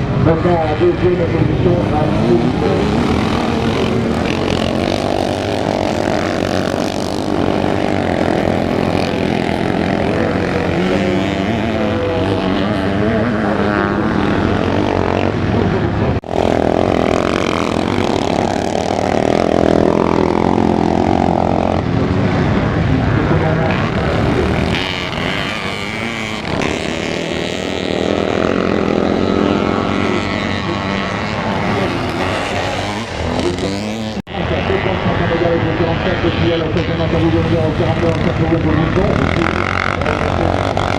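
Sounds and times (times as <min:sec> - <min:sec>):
motocross engines racing: 0:00.0 - 0:40.9.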